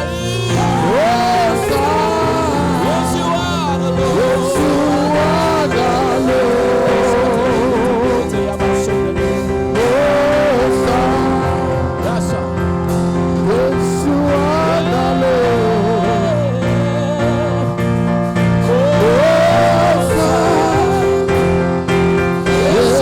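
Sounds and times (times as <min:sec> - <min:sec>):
held chords: 0:00.0 - 0:23.0
person singing slow melody: 0:00.0 - 0:23.0.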